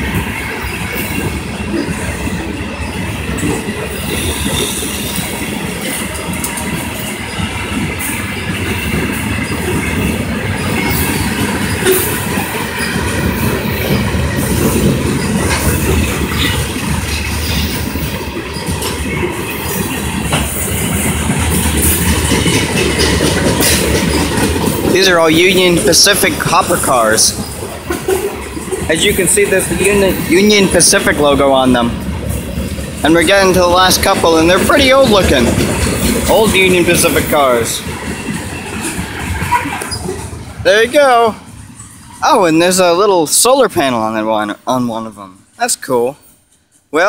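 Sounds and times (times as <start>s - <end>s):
train wheels rumbling on rail: 0.0s - 47.0s
wheels clicking over rail joints: 0.0s - 47.0s.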